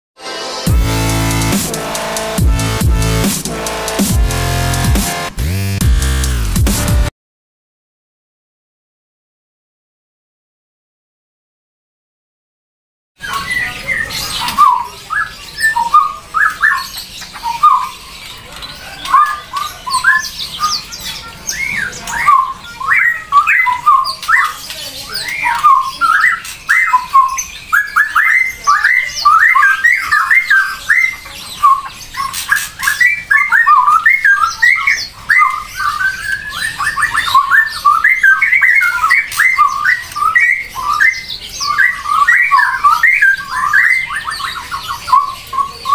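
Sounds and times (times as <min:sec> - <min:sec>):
birds chirping and squawking: 0:00.6 - 0:07.1, 0:13.2 - 0:45.9.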